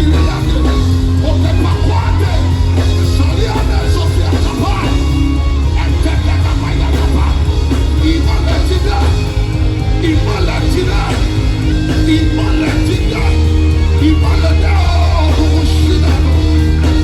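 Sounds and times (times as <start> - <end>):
heavy bass notes: 0.0 - 17.0
live worship band playing: 0.0 - 17.0
voices singing and calling out: 0.0 - 17.0.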